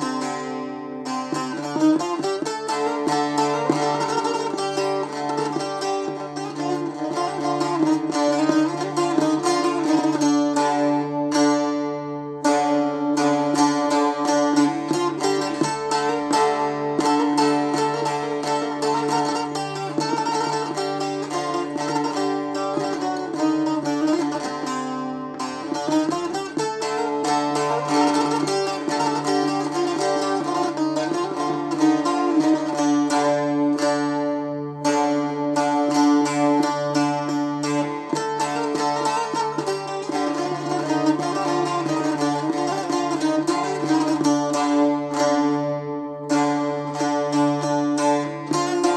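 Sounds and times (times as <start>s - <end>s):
plucked saz folk melody: 0.0s - 48.9s.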